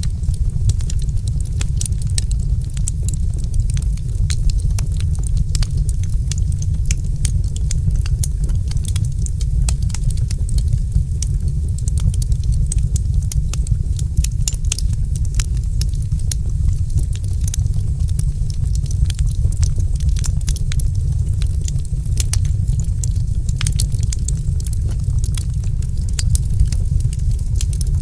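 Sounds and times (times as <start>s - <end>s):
log fire crackling: 0.0s - 28.0s.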